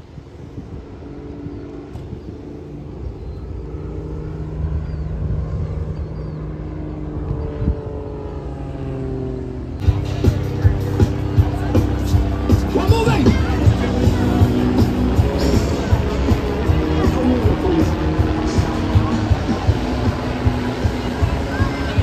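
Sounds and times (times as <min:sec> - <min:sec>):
propeller aircraft engine drone: 0:00.0 - 0:22.0.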